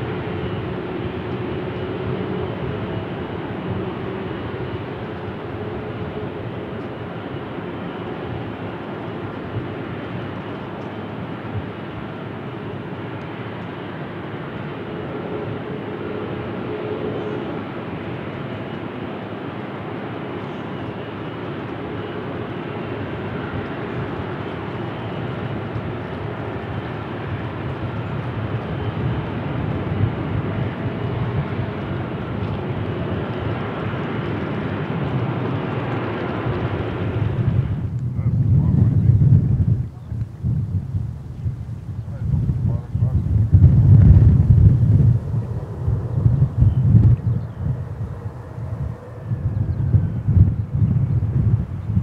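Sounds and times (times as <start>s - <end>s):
aircraft engines rushing: 0.0s - 52.0s.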